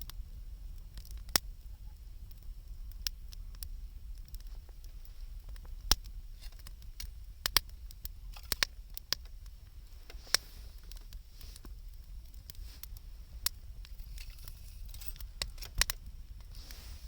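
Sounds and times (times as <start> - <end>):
campfire crackling and popping: 0.0 - 17.0
faint fire hiss: 0.0 - 17.0.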